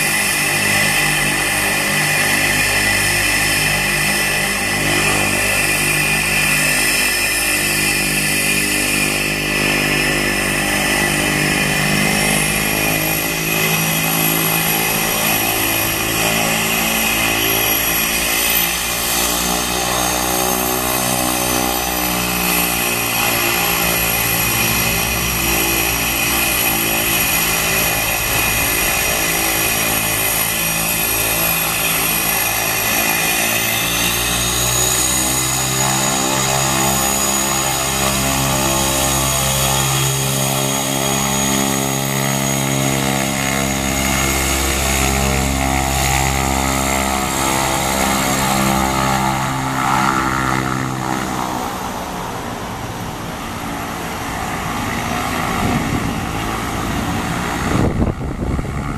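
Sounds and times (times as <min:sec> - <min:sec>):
high turbine whine: 0:00.0 - 0:58.9
turboprop engine drone: 0:00.0 - 0:58.9.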